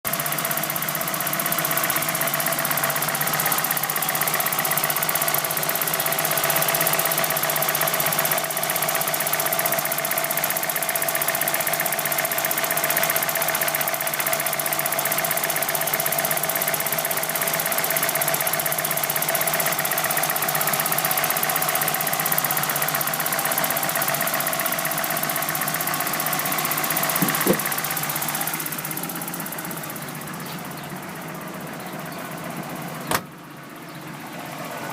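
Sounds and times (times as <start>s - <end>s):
abnormal engine noise: 0.1s - 34.9s
car engine running: 0.1s - 34.9s.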